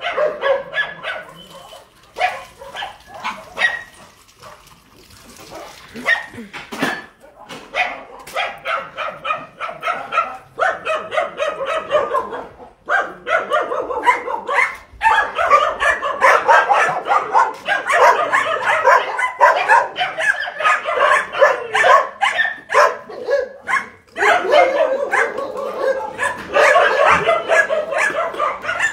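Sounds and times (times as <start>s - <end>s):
many dogs barking and yipping: 0.0s - 28.9s.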